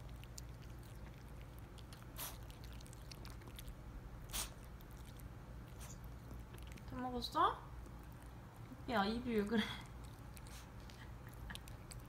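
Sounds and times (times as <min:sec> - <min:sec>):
dog chewing and licking: 0:00.0 - 0:12.0.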